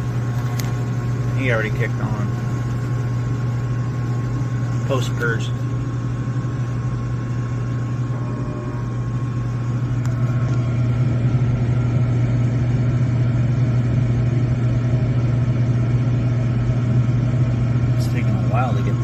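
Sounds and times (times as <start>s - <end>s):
furnace blower motor hum: 0.0s - 19.0s.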